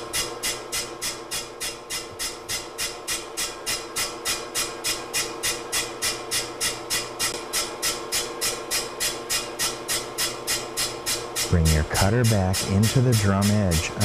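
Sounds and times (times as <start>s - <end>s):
brake lathe motor hum: 0.0s - 14.0s
rhythmic hissing swish: 0.0s - 14.0s.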